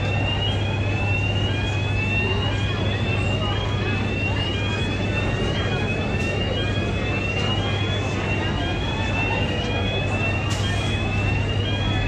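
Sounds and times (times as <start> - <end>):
low hum of ship machinery: 0.0 - 12.0.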